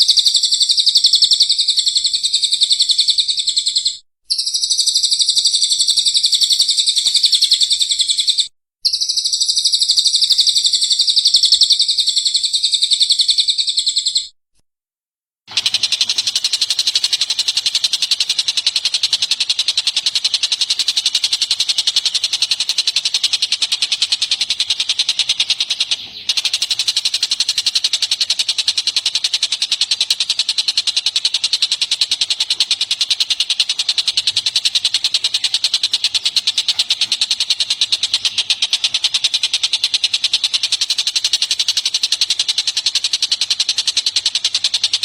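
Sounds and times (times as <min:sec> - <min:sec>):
songbird high chirps: 0:00.0 - 0:14.3, 0:15.7 - 0:45.0.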